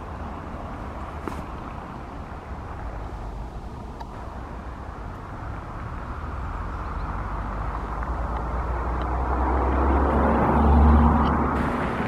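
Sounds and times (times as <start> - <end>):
vehicle approaching: 0.0 - 12.0.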